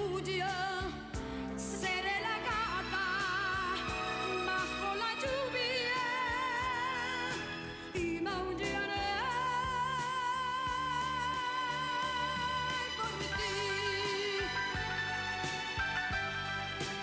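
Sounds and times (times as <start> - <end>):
woman singing with vibrato: 0.0 - 16.7
pop ballad band: 0.0 - 17.0.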